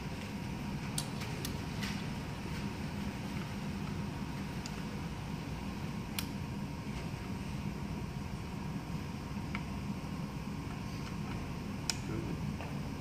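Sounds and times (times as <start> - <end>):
low background hum and hiss: 0.0 - 13.0.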